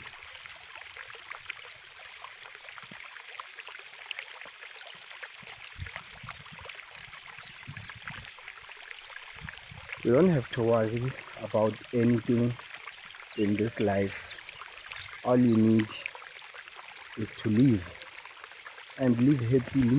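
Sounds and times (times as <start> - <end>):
stream babbling: 0.0 - 19.9.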